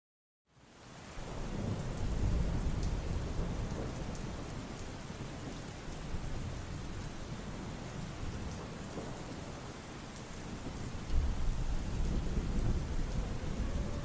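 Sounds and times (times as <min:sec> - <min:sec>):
steady rain: 0:00.5 - 0:14.0
low rumble of thunder: 0:01.2 - 0:14.0.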